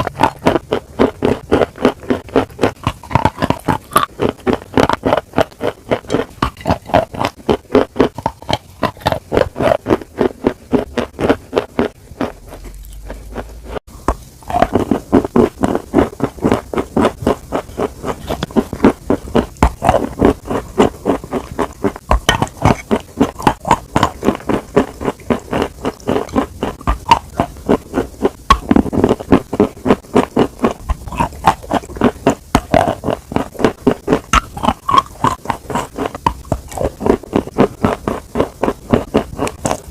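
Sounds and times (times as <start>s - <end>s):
chewing food: 0.0s - 39.9s.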